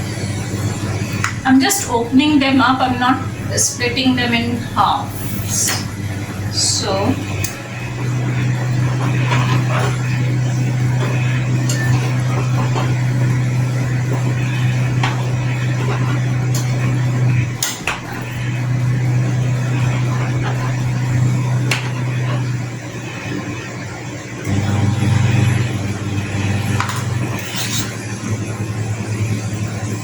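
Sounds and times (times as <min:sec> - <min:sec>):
low hum: 0:00.0 - 0:23.7, 0:24.5 - 0:30.0.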